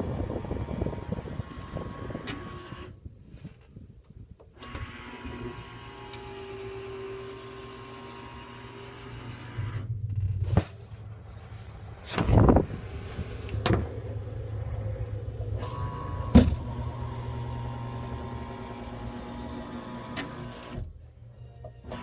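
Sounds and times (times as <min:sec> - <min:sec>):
ventilator motor humming: 0:00.0 - 0:02.8, 0:04.7 - 0:10.5, 0:11.1 - 0:20.8.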